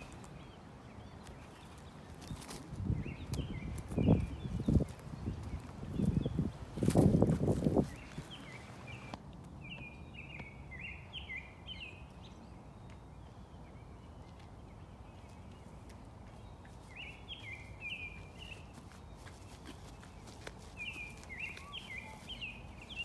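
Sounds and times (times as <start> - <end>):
low outdoor background noise: 0.0 - 23.0.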